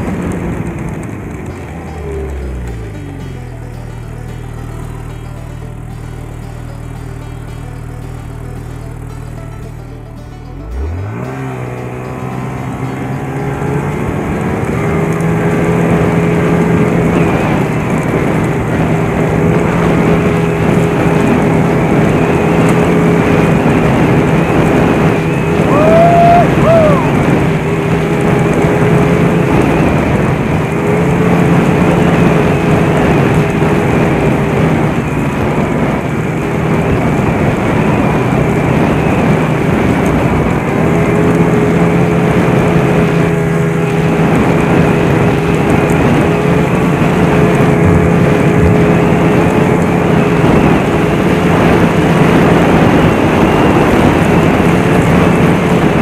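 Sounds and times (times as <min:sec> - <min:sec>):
rush of track and snow: 0:00.0 - 0:56.0
snowmobile engine running: 0:00.0 - 0:56.0.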